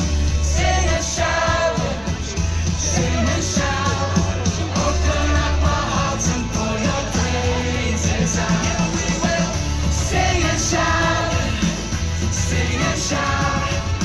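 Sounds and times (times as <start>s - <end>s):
amplified backing track: 0.0s - 14.0s
choir singing in unison: 0.0s - 14.0s.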